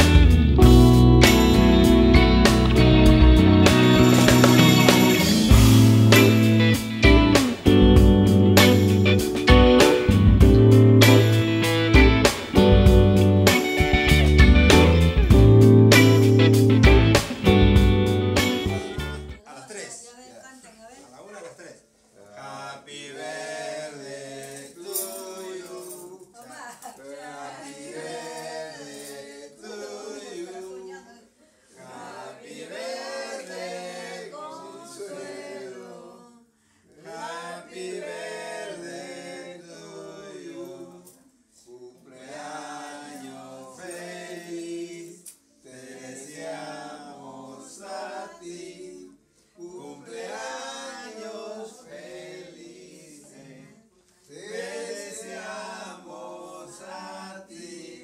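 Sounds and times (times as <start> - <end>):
group singing without accompaniment: 0.0 - 19.3, 22.2 - 26.4, 27.0 - 58.0.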